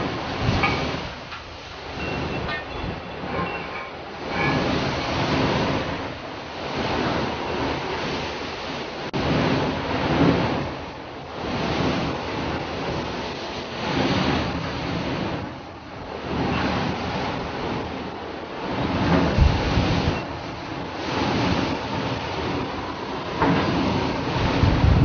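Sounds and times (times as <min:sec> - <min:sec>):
waves breaking and rushing: 0:00.0 - 0:25.0
wind: 0:00.0 - 0:25.0.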